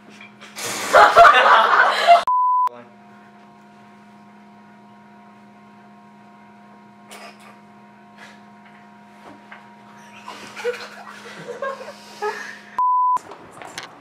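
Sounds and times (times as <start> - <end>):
electrical hum: 0.6 - 14.0.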